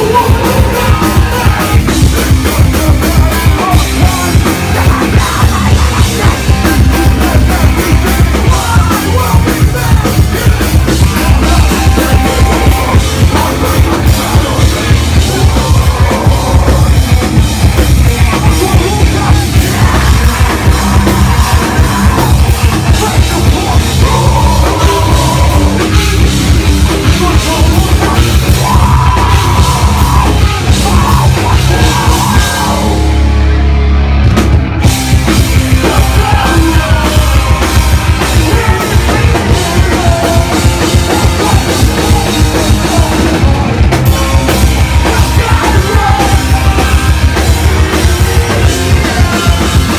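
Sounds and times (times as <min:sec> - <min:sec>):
electric bass: 0:00.0 - 0:49.9
heavy rock band playing: 0:00.0 - 0:49.9
pounding drum kit: 0:00.0 - 0:49.9.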